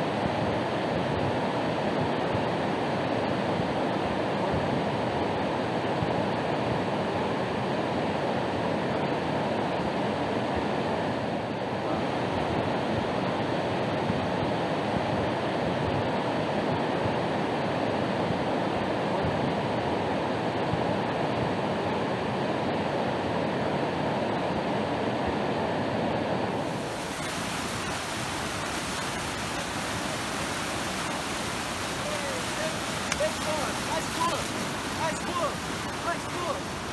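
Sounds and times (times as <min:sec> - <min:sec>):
river rapids rushing: 0:00.0 - 0:36.9.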